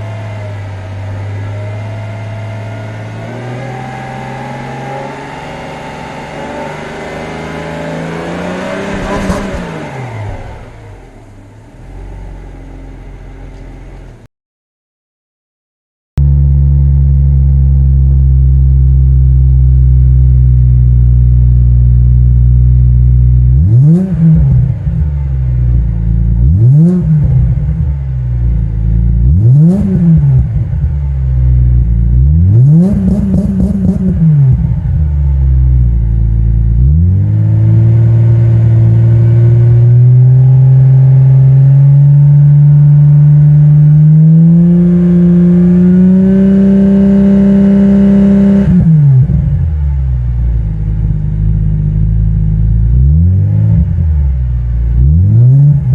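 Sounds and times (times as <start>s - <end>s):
car engine idling and revving: 0.0s - 14.3s, 16.2s - 55.9s.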